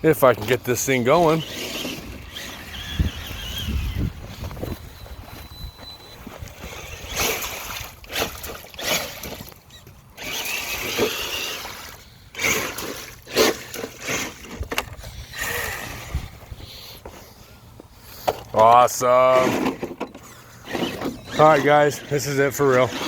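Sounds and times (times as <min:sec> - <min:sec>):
electric motor whining: 0:00.4 - 0:17.2, 0:19.2 - 0:23.0.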